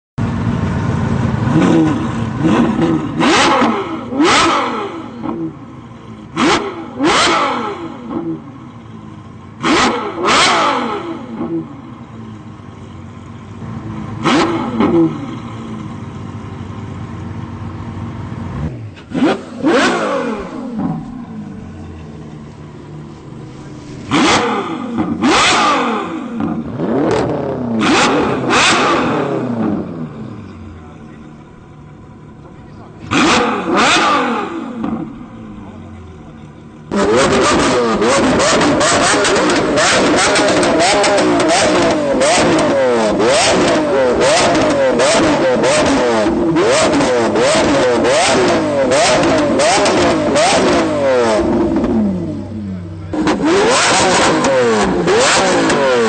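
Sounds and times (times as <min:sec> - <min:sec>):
car engine revving: 0:00.2 - 0:56.0.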